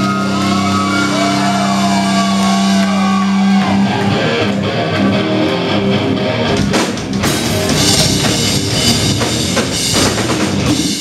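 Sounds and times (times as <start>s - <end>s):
heavy metal band playing: 0.0s - 11.0s.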